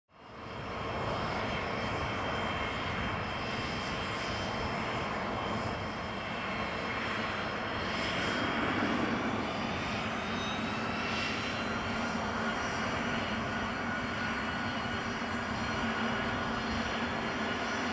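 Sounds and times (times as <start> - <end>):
jet engines at taxi power: 0.1 - 17.9.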